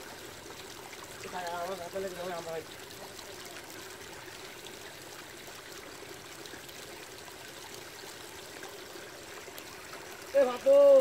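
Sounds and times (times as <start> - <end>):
water running through a channel: 0.0 - 11.0.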